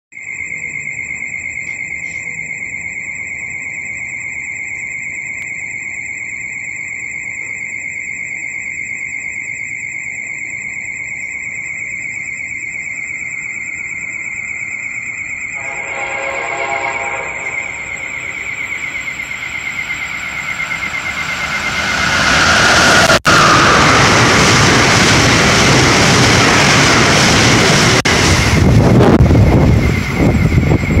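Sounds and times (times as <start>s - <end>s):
pulsing high-pitched warning alarm: 0.2s - 31.0s.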